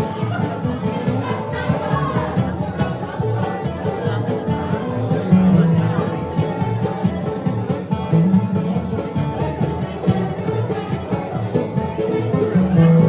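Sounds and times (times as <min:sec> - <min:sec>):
banjo: 0:00.0 - 0:13.0
bluegrass band playing: 0:00.0 - 0:13.0
picked guitar: 0:00.0 - 0:13.0.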